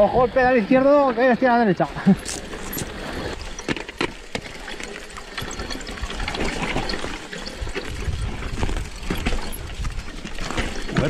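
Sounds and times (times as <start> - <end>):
tyres rolling over dirt and stones: 0.0 - 11.0
bike clicks and knocks: 2.1 - 11.0.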